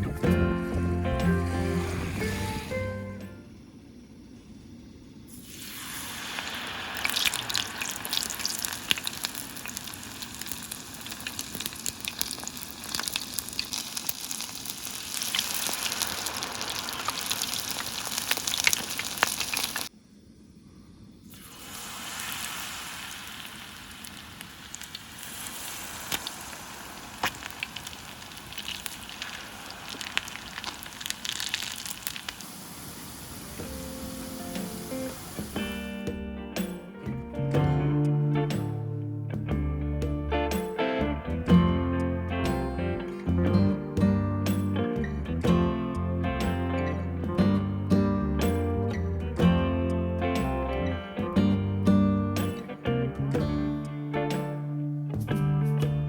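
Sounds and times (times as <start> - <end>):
hot oil sizzling and popping: 5.2 - 19.9, 21.2 - 56.0.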